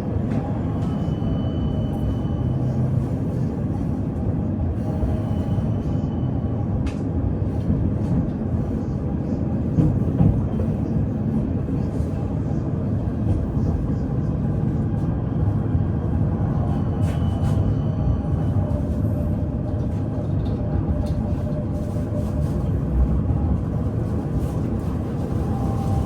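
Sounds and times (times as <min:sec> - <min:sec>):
tram wheels rumbling on rail: 0:00.0 - 0:26.0.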